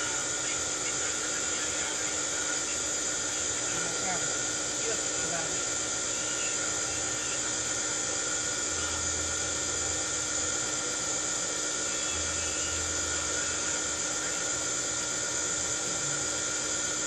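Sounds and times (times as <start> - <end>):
electric motor whirring hum: 0.0 - 17.0.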